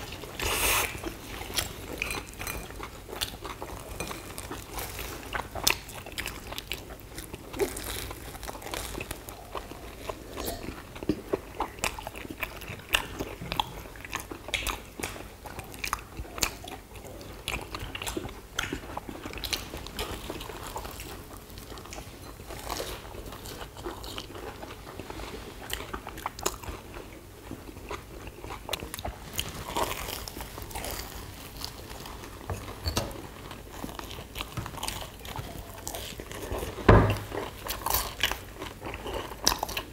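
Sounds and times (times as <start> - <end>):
people chewing crunchy doughnuts: 0.0 - 32.6, 33.2 - 39.9.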